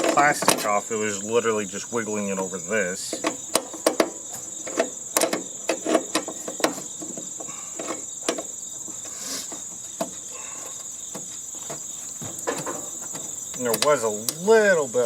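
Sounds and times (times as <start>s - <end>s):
clicks and knocks of parts handled: 0.0s - 0.8s, 3.1s - 14.4s
cricket trill: 0.0s - 15.0s.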